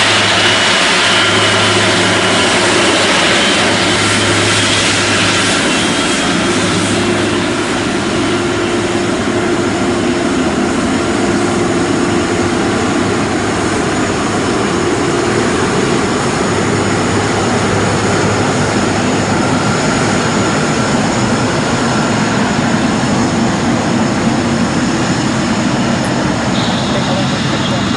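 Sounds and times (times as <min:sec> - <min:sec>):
jet engines whining: 0:00.0 - 0:27.9.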